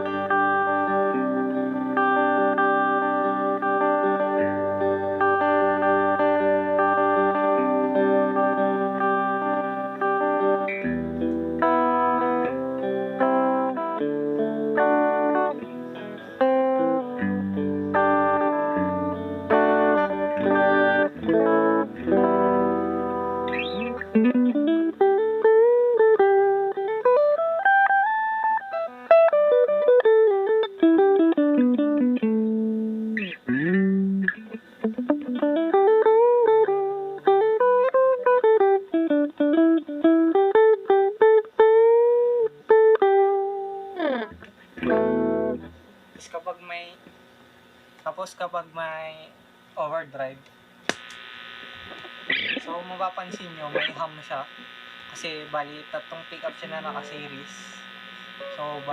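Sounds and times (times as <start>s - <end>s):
clean electric guitar: 0.0s - 48.1s, 50.2s - 58.9s.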